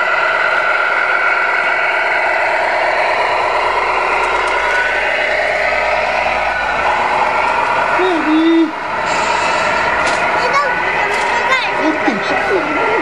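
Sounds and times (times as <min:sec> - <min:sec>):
simulated diesel engine from small speaker: 0:00.0 - 0:13.0.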